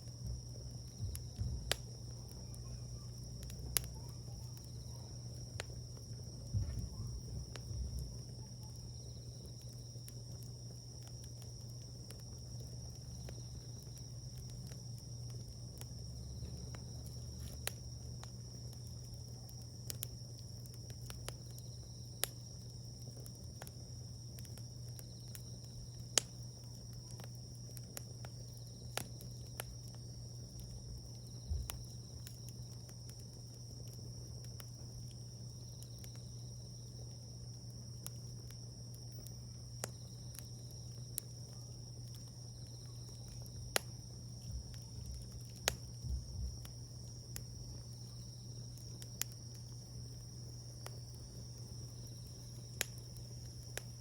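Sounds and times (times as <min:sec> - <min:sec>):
insects droning: 0:00.0 - 0:54.0
wood fire crackling and popping: 0:00.0 - 0:54.0.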